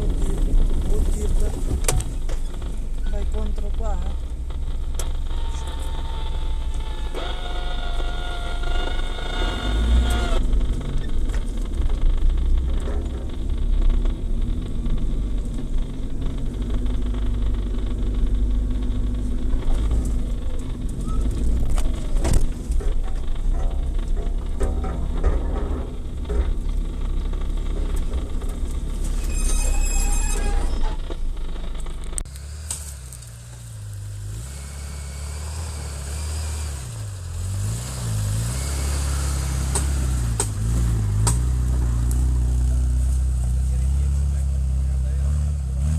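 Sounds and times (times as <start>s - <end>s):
vehicle engine low rumble: 0.0s - 45.9s.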